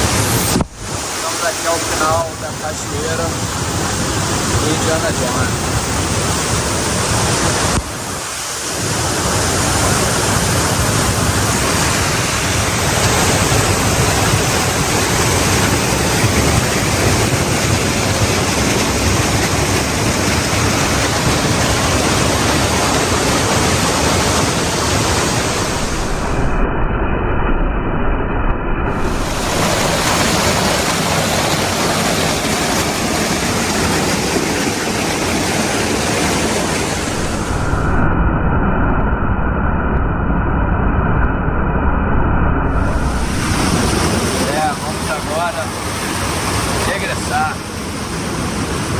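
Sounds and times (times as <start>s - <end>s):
rushing water of waterfall and rapids: 0.0s - 26.6s, 28.9s - 38.1s, 42.7s - 48.9s.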